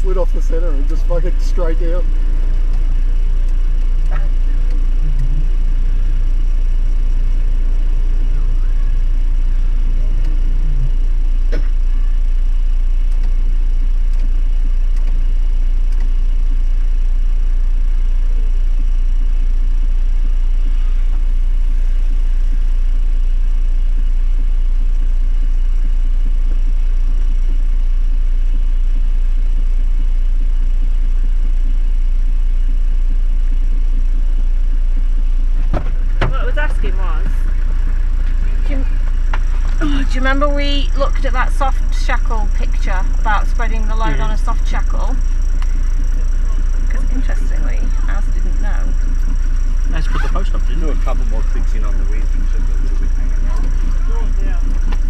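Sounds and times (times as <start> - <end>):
vehicle engine rumble from inside: 0.0 - 55.0.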